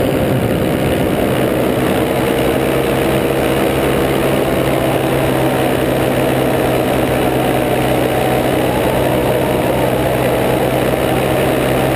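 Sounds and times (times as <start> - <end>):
paramotor engine droning: 0.0 - 11.9.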